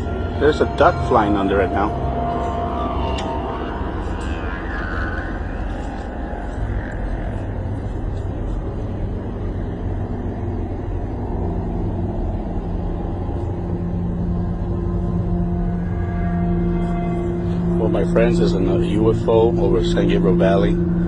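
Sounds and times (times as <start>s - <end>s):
low droning tone: 0.0s - 21.0s.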